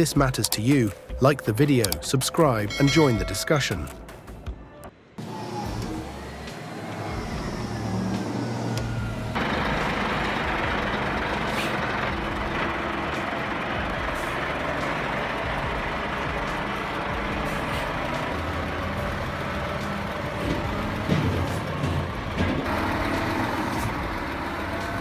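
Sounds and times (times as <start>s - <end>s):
heavy truck engine and road noise: 4.6s - 25.0s.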